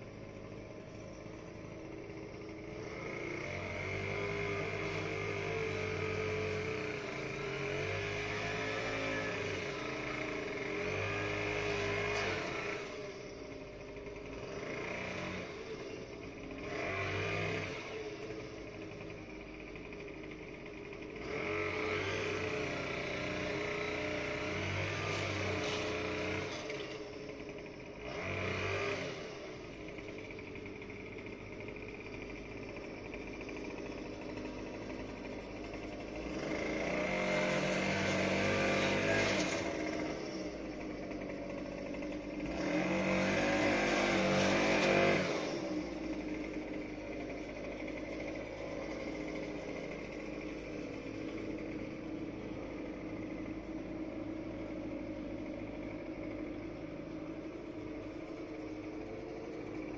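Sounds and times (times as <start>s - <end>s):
small gasoline engine revving: 0.0s - 59.9s.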